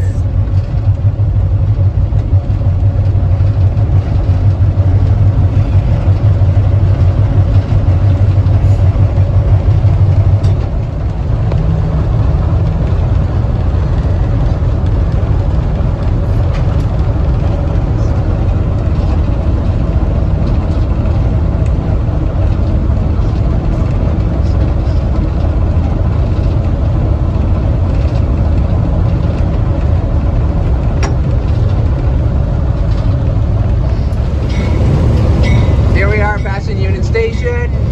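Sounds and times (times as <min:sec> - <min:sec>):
train rolling along track: 0:00.0 - 0:37.9.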